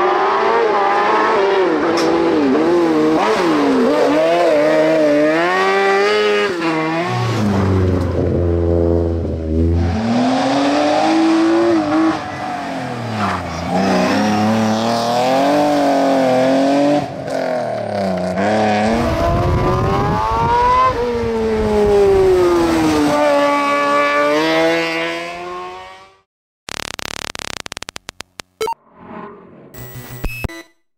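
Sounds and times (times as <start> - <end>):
race car engines revving: 0.0 - 26.2.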